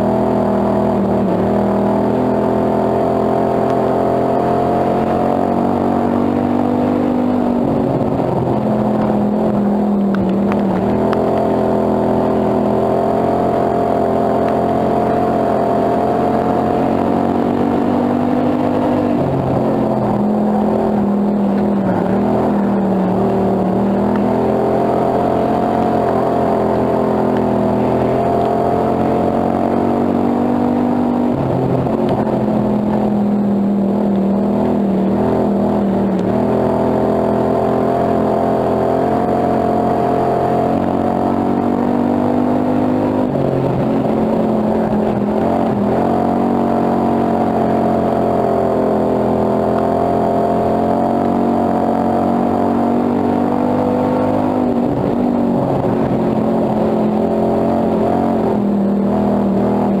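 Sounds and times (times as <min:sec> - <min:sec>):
race car engine running hard: 0:00.0 - 1:00.0.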